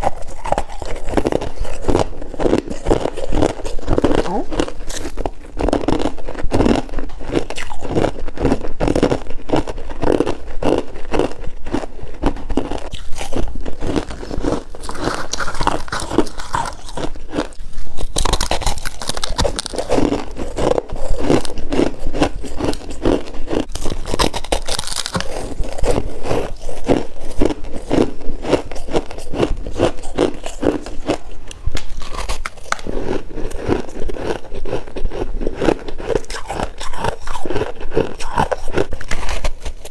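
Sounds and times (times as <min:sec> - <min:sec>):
frost crunching when chewed: 0:00.0 - 0:39.9.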